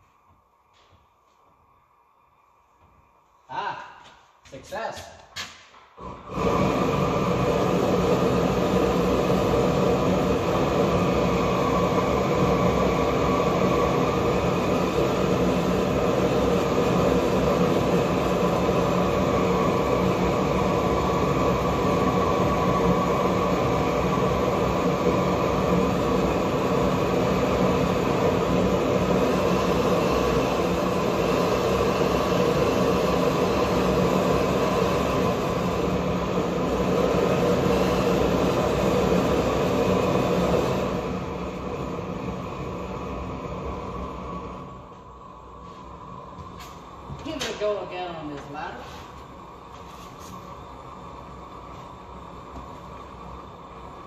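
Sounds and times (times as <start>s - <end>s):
propane torch flame rushing: 5.2s - 54.0s.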